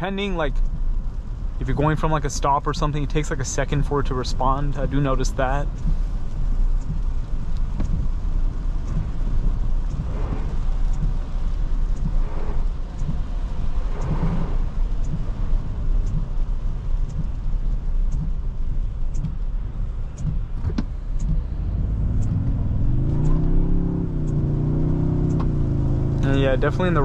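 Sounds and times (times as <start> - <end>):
road and tyre rumble: 0.0 - 27.0
faint ticking: 0.2 - 27.0
humming engine: 1.6 - 27.0.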